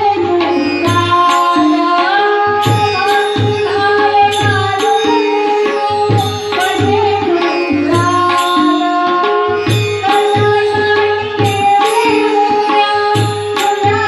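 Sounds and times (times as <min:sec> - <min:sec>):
keyboard: 0:00.0 - 0:14.0
tabla drum strokes: 0:00.0 - 0:14.0
tanpura drone: 0:00.0 - 0:14.0
woman singing into a microphone: 0:00.0 - 0:14.0
hand cymbals ringing: 0:00.4 - 0:14.0.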